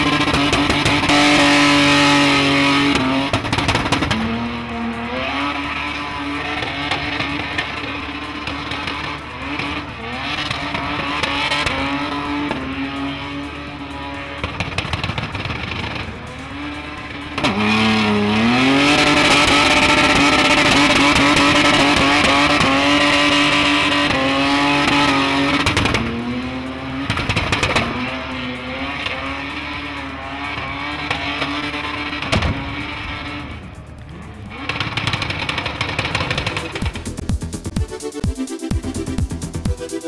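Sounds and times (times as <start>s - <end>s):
engine revving high: 0.0s - 40.0s.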